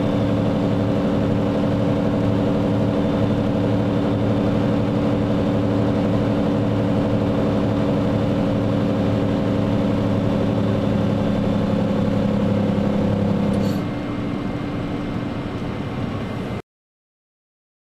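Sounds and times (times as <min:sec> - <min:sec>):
diesel truck engine running: 0:00.0 - 0:16.6
road noise: 0:00.0 - 0:16.6.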